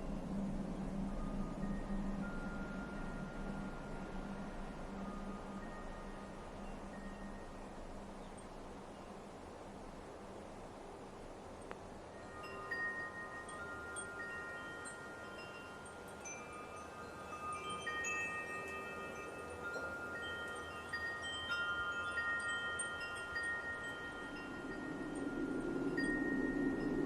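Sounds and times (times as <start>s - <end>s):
soft wind hiss: 0.0s - 27.0s
wind chimes ringing: 0.3s - 8.6s, 12.0s - 27.0s.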